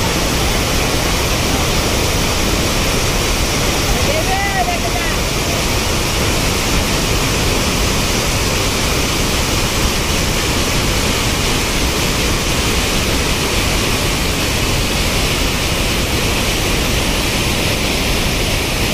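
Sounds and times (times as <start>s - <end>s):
water cascading over a dam: 0.0s - 18.9s.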